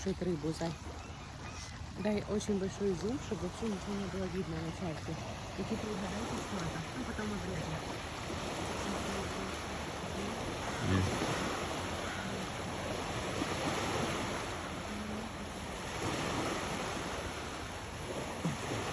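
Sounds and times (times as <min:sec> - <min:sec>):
water at shoreline: 0:00.0 - 0:18.9
wind: 0:00.0 - 0:18.9.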